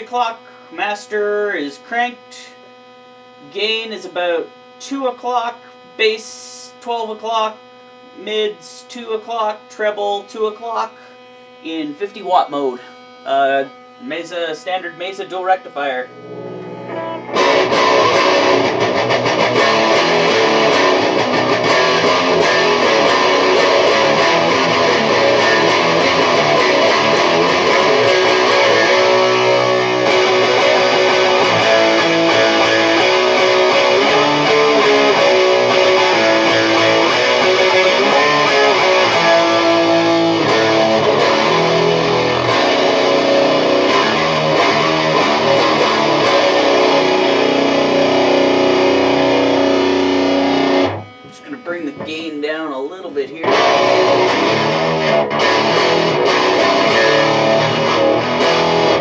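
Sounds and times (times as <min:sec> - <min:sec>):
distorted electric guitar riffing: 0:00.0 - 0:59.0.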